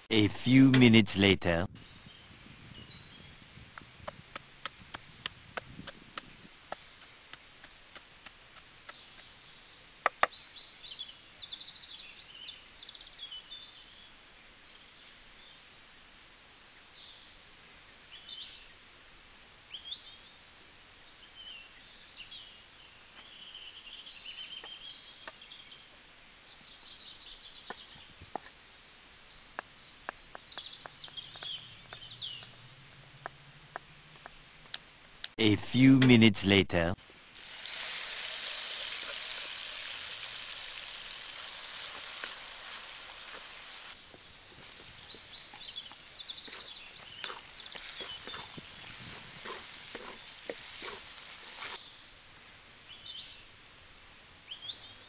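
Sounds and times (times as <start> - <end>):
birds singing and calling: 1.7 - 16.1, 21.1 - 25.9, 26.5 - 36.0, 39.3 - 55.0.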